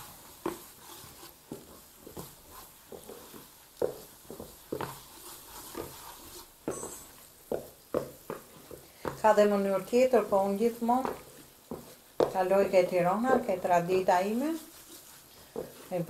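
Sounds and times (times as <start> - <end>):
wooden spoon scraping a pan: 0.0 - 16.0.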